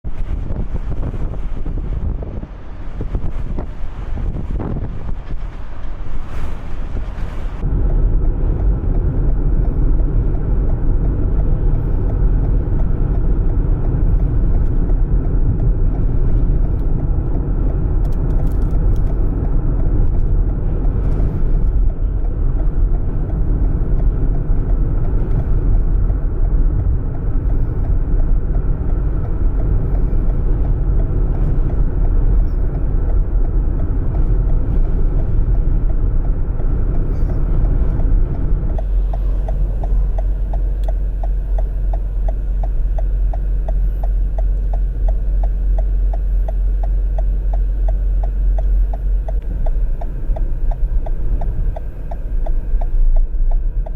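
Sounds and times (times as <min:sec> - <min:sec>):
vehicle driving rumble: 0:00.0 - 0:53.9.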